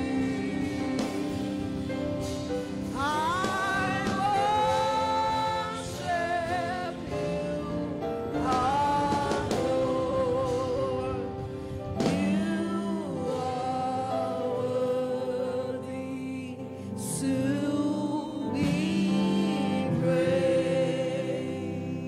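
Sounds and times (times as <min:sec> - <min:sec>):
musical accompaniment: 0:00.0 - 0:22.0.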